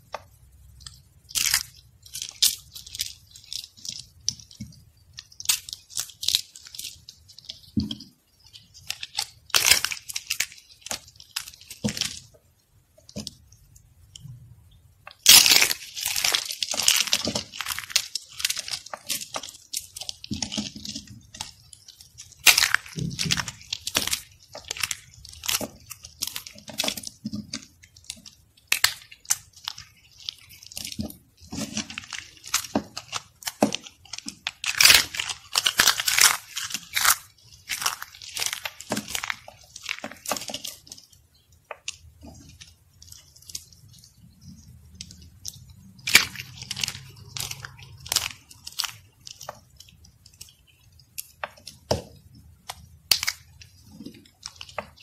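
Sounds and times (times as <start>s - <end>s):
soap shavings crunching: 0.0s - 14.3s, 15.1s - 55.0s.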